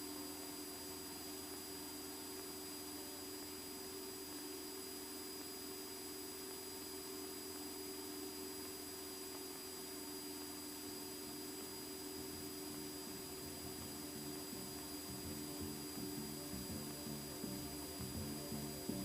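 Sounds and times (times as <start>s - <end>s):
constant tones: 0.0s - 19.0s
electrical hum and hiss: 0.0s - 19.0s.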